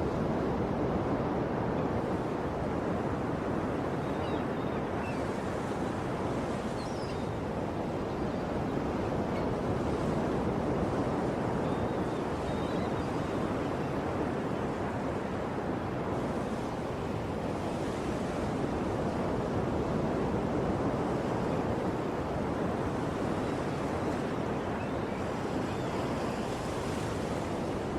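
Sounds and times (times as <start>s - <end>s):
ocean surf washing on shore: 0.0s - 27.9s.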